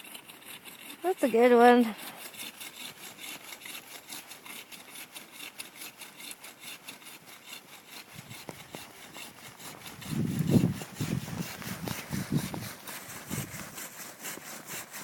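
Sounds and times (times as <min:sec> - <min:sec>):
hand saw cutting tree trunk: 0:00.0 - 0:15.0.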